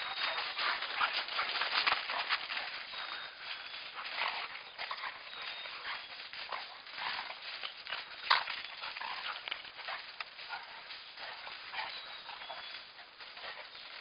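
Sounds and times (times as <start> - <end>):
dogs play-fighting: 0.0 - 14.0
scuffling in snow: 0.0 - 14.0.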